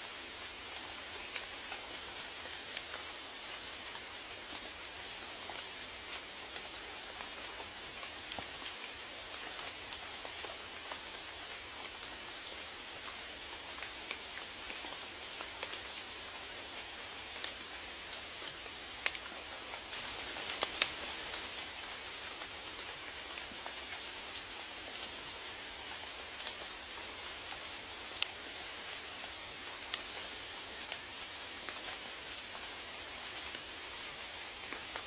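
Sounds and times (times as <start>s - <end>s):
steady rain hiss: 0.0s - 35.0s
raindrops ticking on hard surface: 0.8s - 35.0s.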